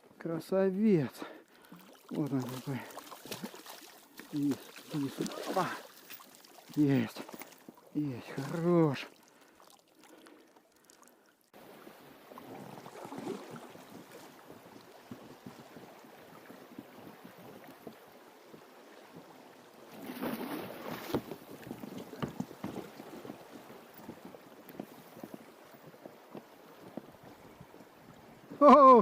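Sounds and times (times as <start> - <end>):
water lapping against a boat: 1.2 - 29.0.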